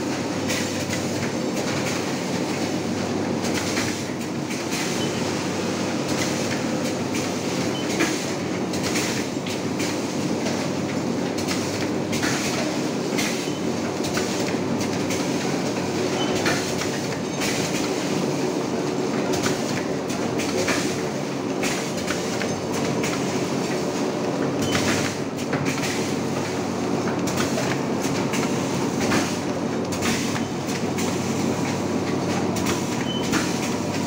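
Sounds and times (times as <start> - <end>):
packing machine clatter: 0.0 - 34.0.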